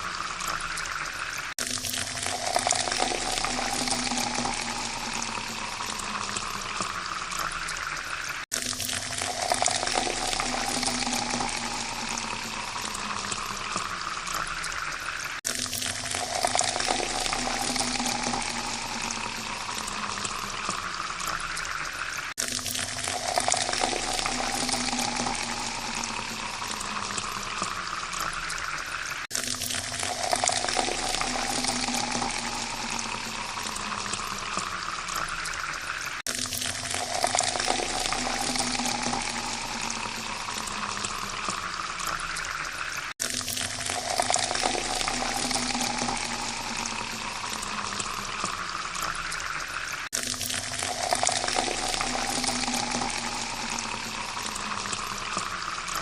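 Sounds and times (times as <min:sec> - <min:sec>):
water pouring into a glass: 0:00.0 - 0:56.0.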